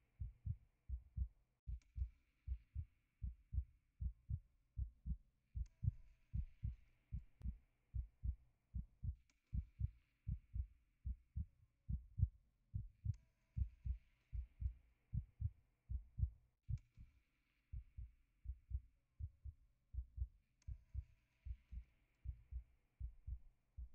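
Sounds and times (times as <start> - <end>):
heartbeat thumps: 0.2 - 2.1, 2.7 - 17.0, 17.7 - 23.9.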